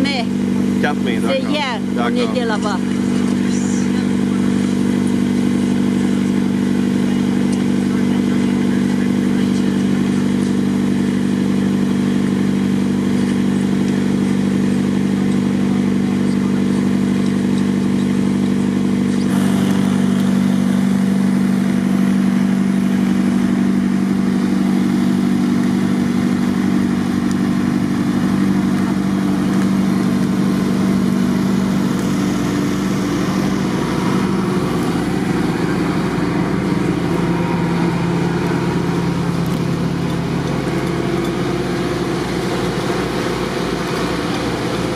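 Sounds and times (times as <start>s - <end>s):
diesel pump engine droning: 0.0s - 44.9s
generator running: 0.0s - 44.9s.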